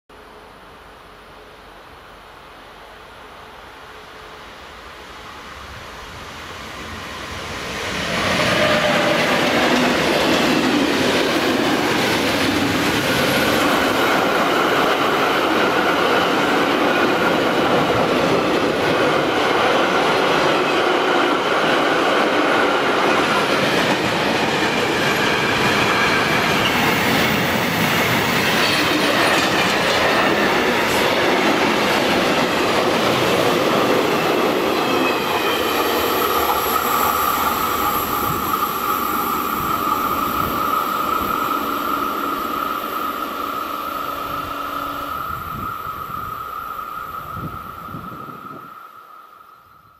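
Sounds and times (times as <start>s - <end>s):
freight train rumbling past: 0.3s - 49.8s.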